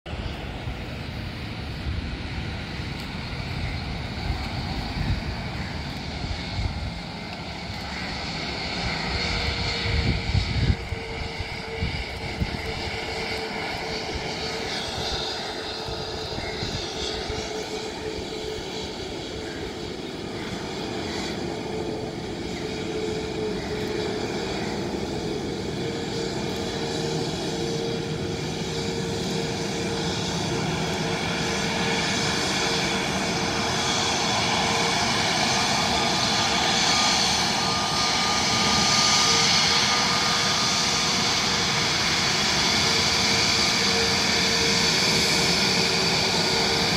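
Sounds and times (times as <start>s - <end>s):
jet engines whining at taxi power: 0.1s - 46.9s.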